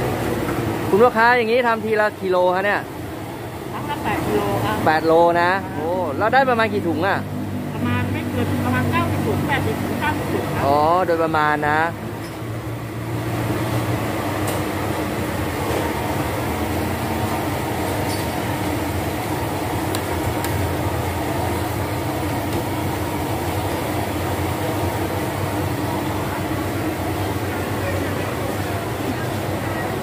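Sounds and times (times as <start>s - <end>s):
gas burner roar: 0.0s - 30.0s.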